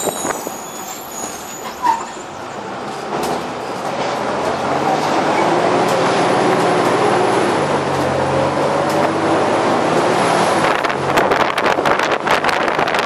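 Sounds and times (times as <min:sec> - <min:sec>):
road noise: 0:00.0 - 0:13.0
bus engine running: 0:02.2 - 0:13.0.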